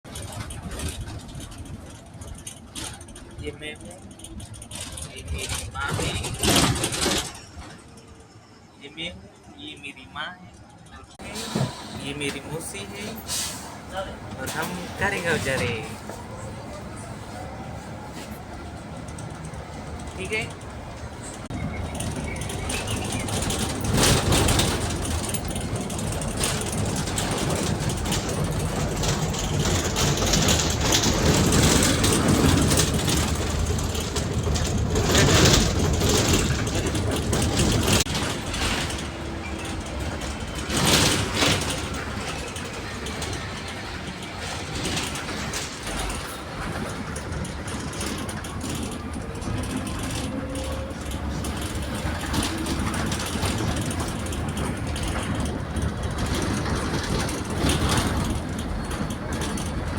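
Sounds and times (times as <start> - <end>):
vehicle engine and road noise: 0.0 - 59.9
bumps and rattles: 0.1 - 8.4, 11.2 - 59.9.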